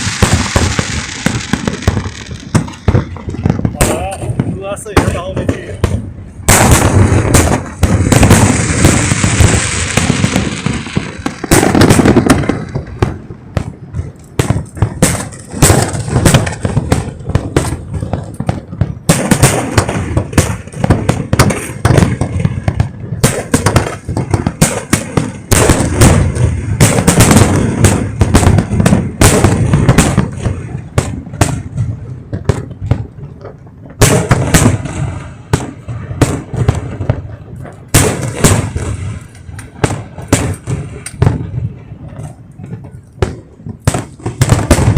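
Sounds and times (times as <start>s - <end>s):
fireworks bangs: 0.0s - 44.9s
fireworks crackle: 0.0s - 44.9s.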